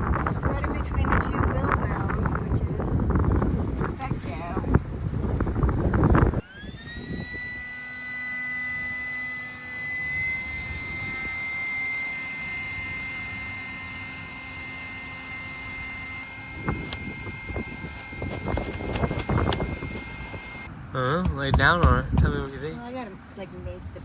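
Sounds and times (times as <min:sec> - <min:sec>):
electric air pump whining: 0:00.0 - 0:20.7.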